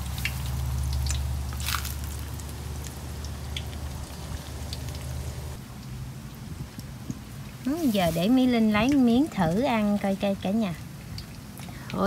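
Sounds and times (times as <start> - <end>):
frying oil crackling: 0.0 - 12.0.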